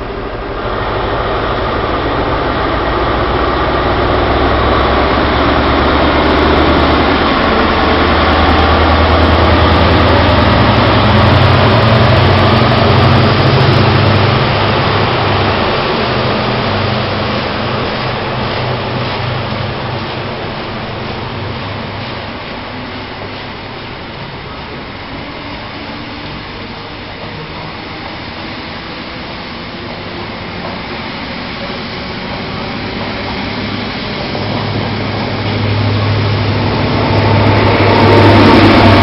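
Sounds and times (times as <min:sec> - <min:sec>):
diesel train engine under power: 0:00.0 - 0:39.0.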